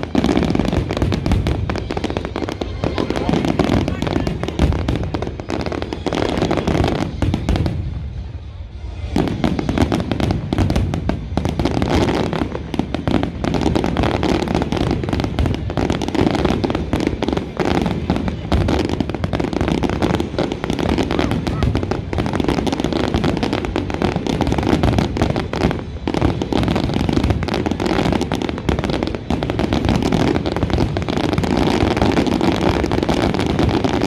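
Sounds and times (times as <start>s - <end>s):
fireworks bursting and crackling: 0.0s - 34.0s.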